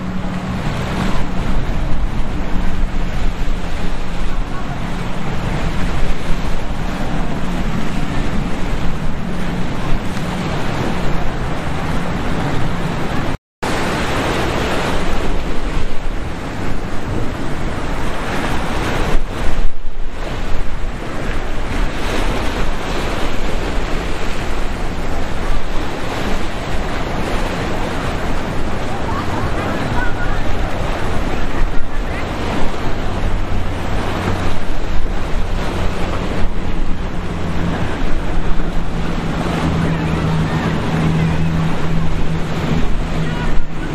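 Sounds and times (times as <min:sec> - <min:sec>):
waves and surf rushing: 0:00.0 - 0:43.9
wind buffeting microphone: 0:00.0 - 0:43.9.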